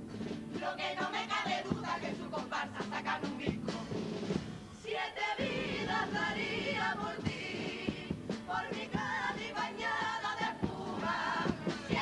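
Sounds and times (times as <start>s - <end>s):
steady drum beat: 0.0s - 4.8s, 5.4s - 12.0s
choir singing with vibrato: 0.5s - 12.0s.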